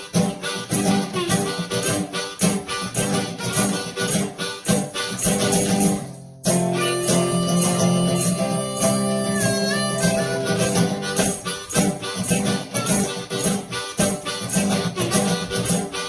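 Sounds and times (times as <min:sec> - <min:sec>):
harmonica: 0:00.0 - 0:16.0
resonator guitar: 0:00.0 - 0:16.0
tambourine jingling: 0:00.0 - 0:16.0.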